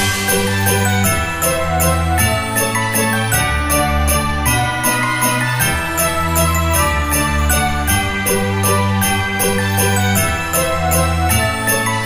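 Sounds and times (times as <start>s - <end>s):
christmas-style background music: 0.0s - 12.0s
sleigh bells shaken: 0.0s - 12.0s.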